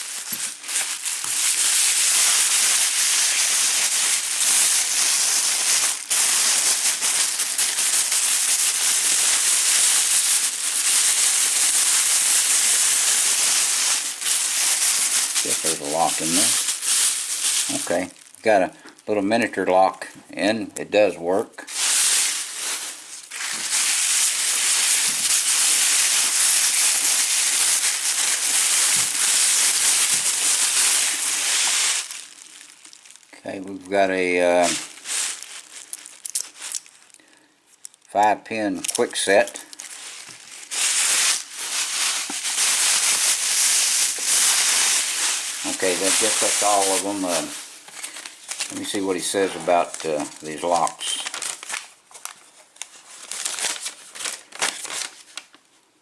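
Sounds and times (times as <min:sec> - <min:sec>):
packing material crinkling: 0:00.0 - 0:19.9, 0:21.6 - 0:55.8.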